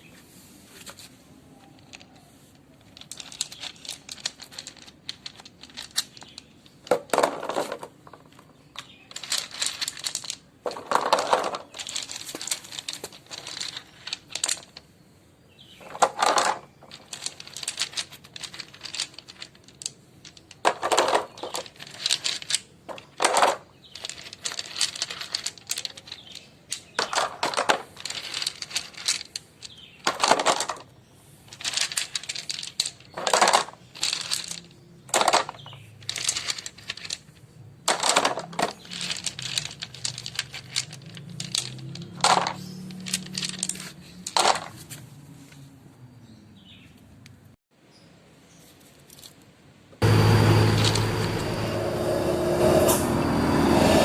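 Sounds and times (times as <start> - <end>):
stones rattling into toy truck: 1.6 - 15.0, 15.6 - 45.1, 48.8 - 49.5, 50.1 - 51.1
small stones clattering: 1.6 - 45.7, 48.7 - 49.4, 50.0 - 51.3.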